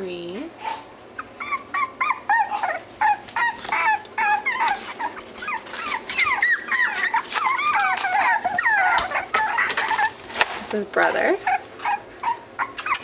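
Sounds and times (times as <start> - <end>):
puppies whining and yipping: 1.1 - 10.5, 11.3 - 13.0.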